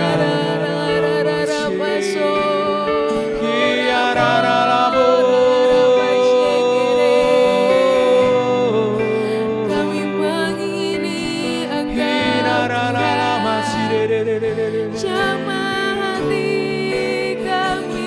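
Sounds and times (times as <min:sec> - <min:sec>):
person singing softly: 0:00.0 - 0:18.0.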